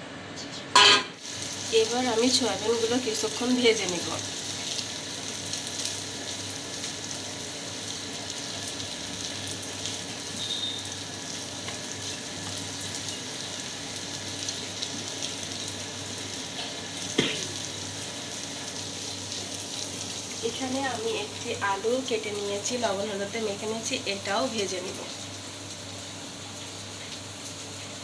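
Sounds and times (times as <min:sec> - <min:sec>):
food sizzling in hot oil: 0:00.8 - 0:28.0.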